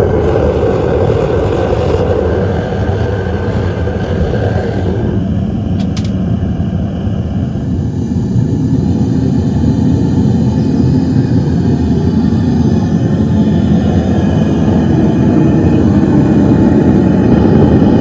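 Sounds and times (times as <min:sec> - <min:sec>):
propane burner flame roar: 0:00.0 - 0:18.0.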